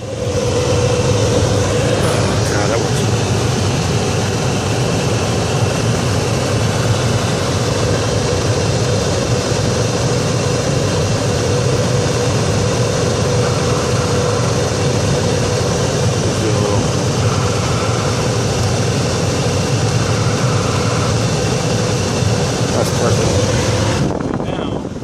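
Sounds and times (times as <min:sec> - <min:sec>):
blower fan rushing air: 0:00.0 - 0:25.0.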